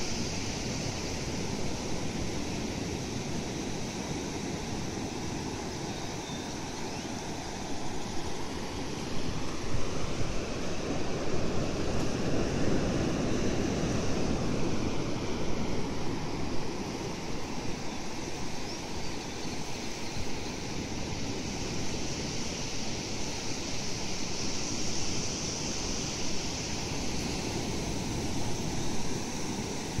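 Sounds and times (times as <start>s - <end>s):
ocean surf breaking on beach: 0.0s - 30.0s.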